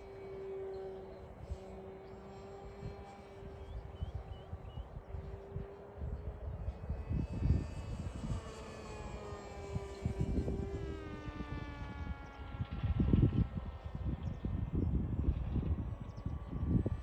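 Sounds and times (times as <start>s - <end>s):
model airplane motor whining: 0.0s - 14.1s
wind buffeting microphone: 0.0s - 17.0s.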